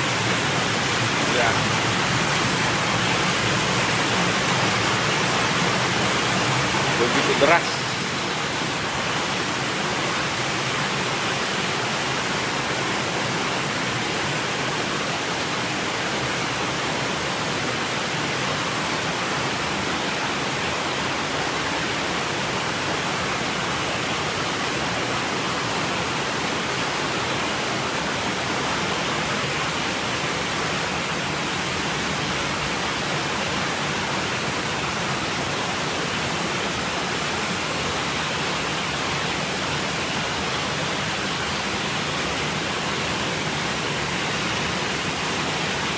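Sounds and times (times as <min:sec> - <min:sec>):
floodwater rushing: 0:00.0 - 0:45.9
heavy downpour: 0:00.0 - 0:45.9.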